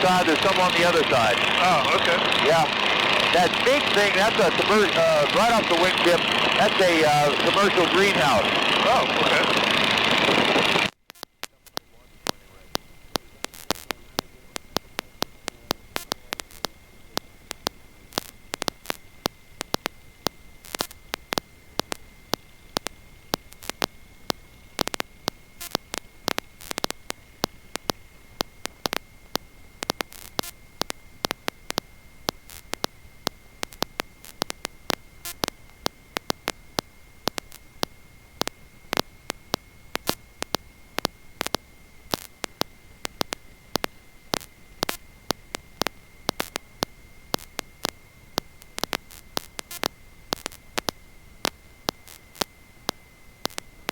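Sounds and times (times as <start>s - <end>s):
high-pitched whine: 0.0s - 53.9s
low hiss: 0.0s - 53.9s
static crackling clicks: 0.0s - 53.9s.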